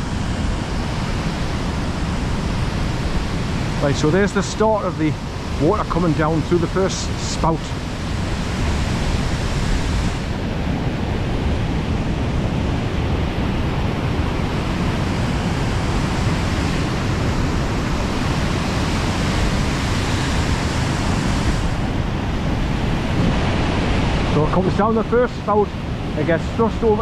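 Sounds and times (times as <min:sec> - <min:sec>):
waterfall roaring over rocks: 0:00.0 - 0:27.0.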